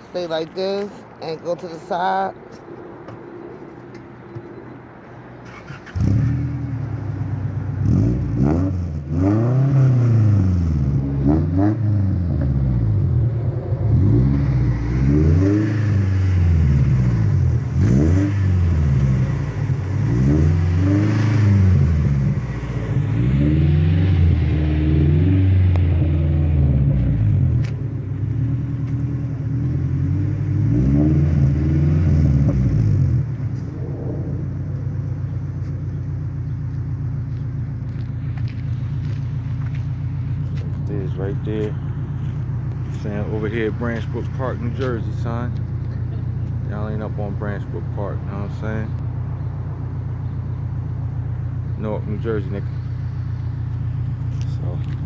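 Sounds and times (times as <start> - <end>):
car engine revving through exhaust: 5.9 - 55.0.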